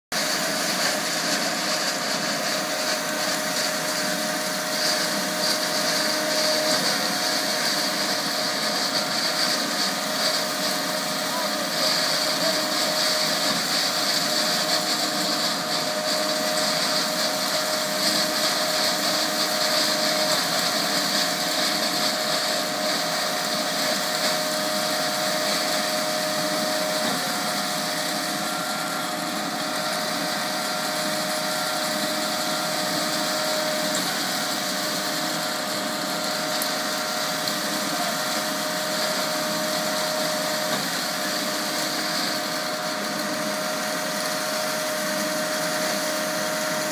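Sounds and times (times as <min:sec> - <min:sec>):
pump truck mechanical drone: 0:00.2 - 0:46.9.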